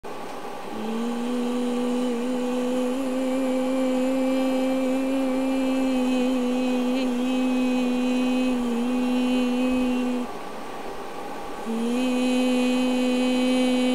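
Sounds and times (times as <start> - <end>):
person humming: 0.7 - 10.3, 11.6 - 13.9.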